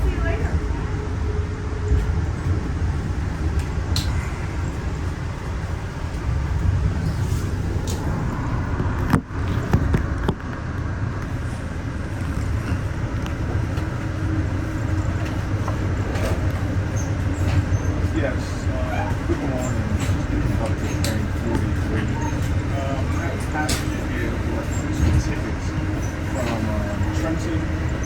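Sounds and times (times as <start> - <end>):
train car rumbling on track: 0.0 - 28.0.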